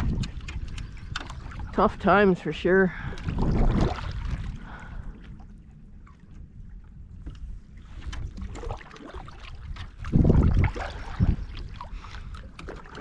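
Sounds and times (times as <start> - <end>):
water splashes: 0.0 - 13.0
wind rumbling on microphone: 0.0 - 13.0.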